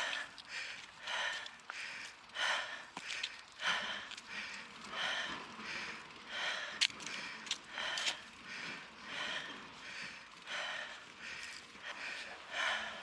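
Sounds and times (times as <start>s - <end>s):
person breathing heavily: 0.0s - 13.0s.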